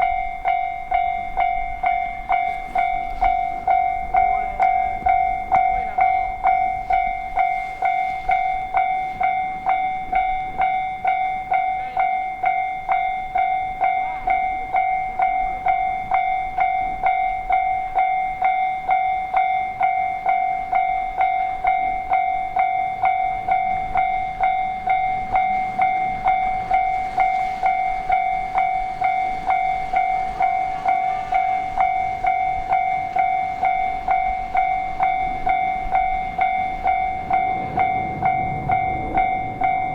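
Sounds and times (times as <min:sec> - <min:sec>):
level crossing alarm bell ringing: 0:00.0 - 0:39.9.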